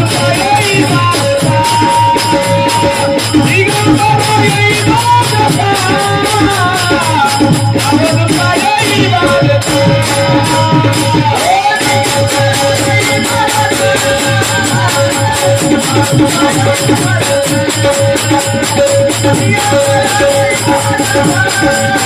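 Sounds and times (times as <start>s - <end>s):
jingling hand percussion: 0.0s - 22.0s
person singing: 0.0s - 22.0s.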